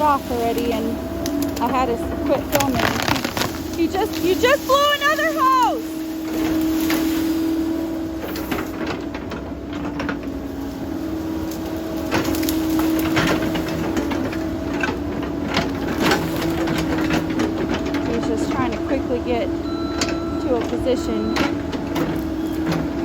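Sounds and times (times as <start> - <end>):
cracking and crunching: 0.0 - 19.0
excavator humming: 0.0 - 23.0.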